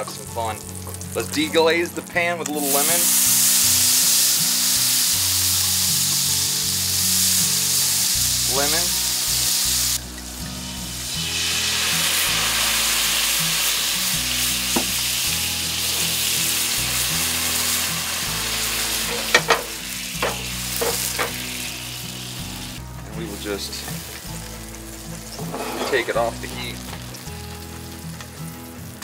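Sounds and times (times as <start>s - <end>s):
liquid sizzling in a skillet: 2.5s - 29.0s.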